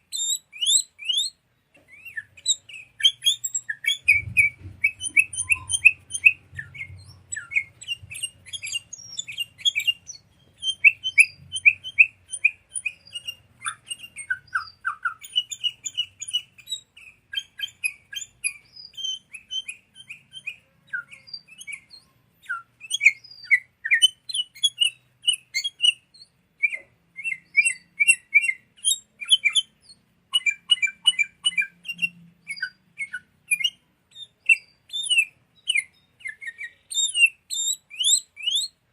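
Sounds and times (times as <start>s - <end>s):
bulbul chirping song: 0.0s - 38.9s.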